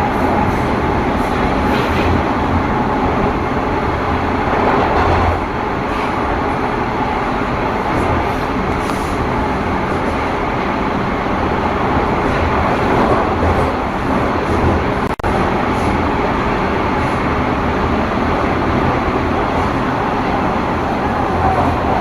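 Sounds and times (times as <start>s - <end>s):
metro train rumble: 0.0s - 22.0s.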